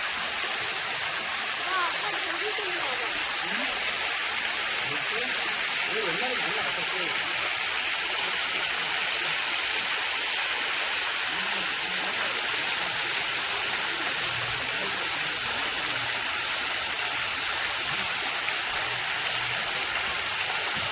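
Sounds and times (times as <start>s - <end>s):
waterfall pouring: 0.0s - 20.9s.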